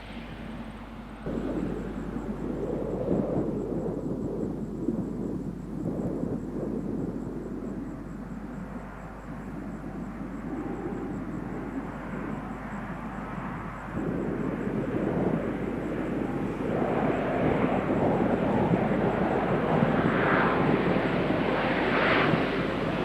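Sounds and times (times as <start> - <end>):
turboprop engines rumbling: 0.0 - 23.0.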